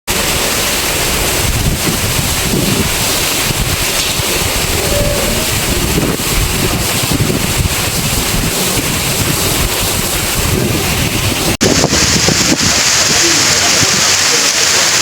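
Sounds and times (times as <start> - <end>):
heavy rain: 0.1 - 15.0
wind buffeting microphone: 0.2 - 14.7.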